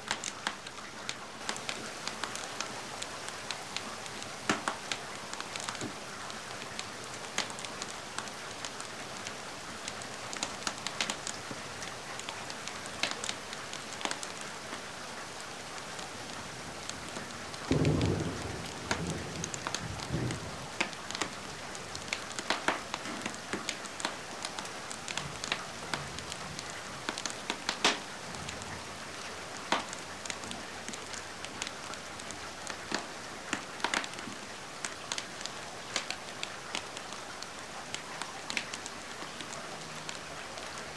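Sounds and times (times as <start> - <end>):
wood fire crackling: 0.0 - 14.8, 17.5 - 28.7, 29.6 - 37.2.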